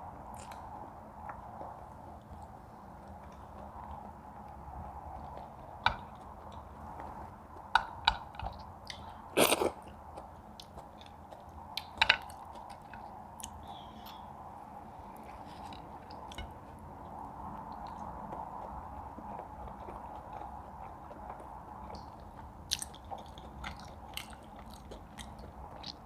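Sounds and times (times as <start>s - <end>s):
steady background hum: 0.0s - 26.0s
people chewing: 0.3s - 26.0s.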